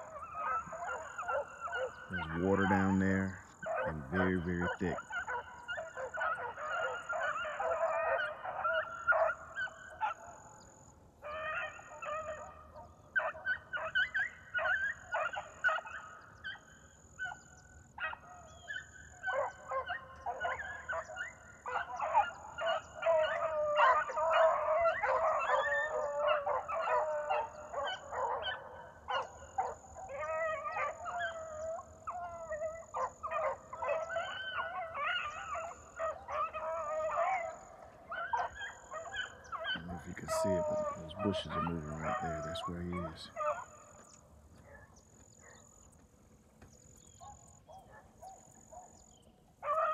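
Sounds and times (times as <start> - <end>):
beagles baying: 0.0 - 49.9.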